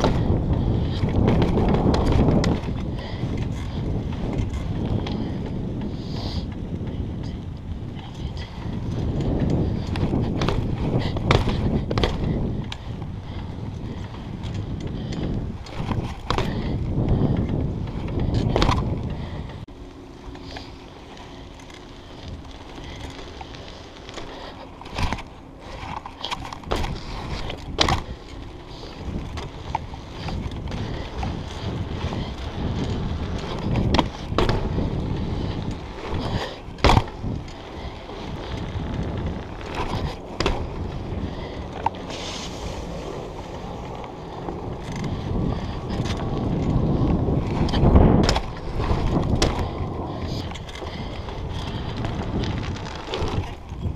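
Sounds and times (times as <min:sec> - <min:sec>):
wind on microphone: 0:00.0 - 0:19.7, 0:28.8 - 0:53.9
bike knocking and rattling: 0:00.0 - 0:53.9
bike tyres rumbling on pavement: 0:00.0 - 0:53.9.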